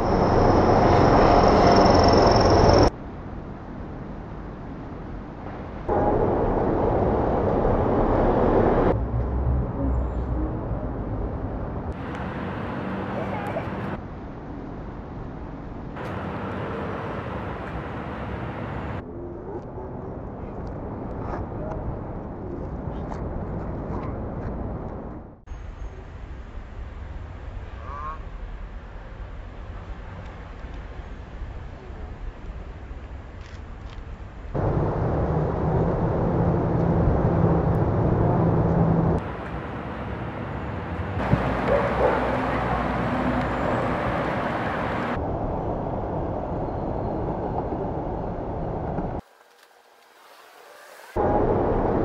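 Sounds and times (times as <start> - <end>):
street noise: 0.0 - 52.0
traffic hum: 0.0 - 52.0.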